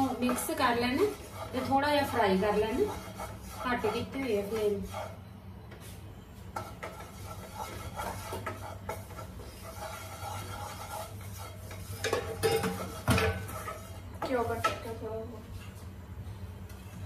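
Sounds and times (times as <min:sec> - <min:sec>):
wooden spatula scraping a pan: 0:00.0 - 0:15.3.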